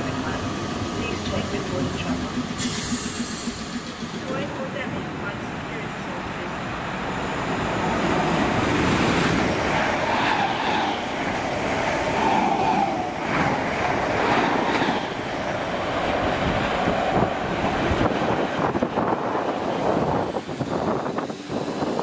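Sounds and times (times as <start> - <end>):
train wheels rumbling on track: 0.0 - 22.0
wavering train whine: 0.0 - 22.0.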